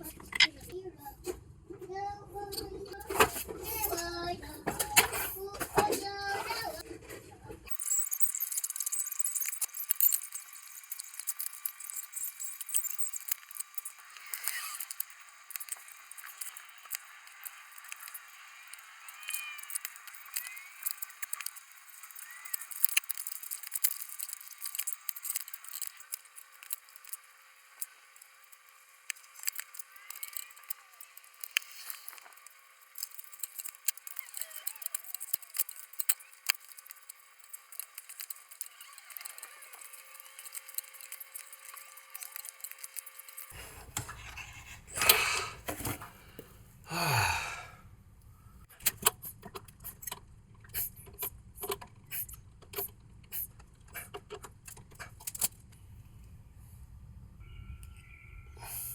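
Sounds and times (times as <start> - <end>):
sticky clicks and scrapes: 2.4 - 46.1, 48.8 - 55.6.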